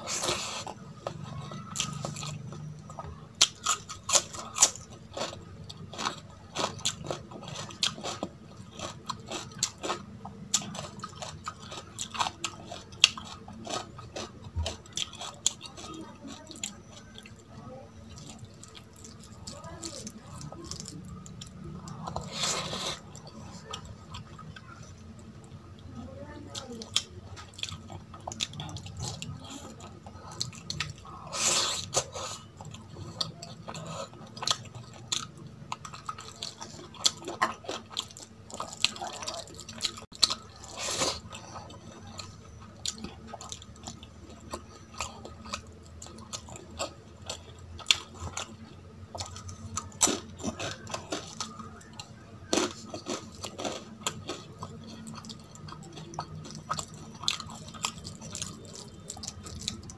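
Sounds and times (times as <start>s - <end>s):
chewing and mouth clicks: 0.1s - 17.5s, 18.1s - 25.6s, 26.5s - 59.9s.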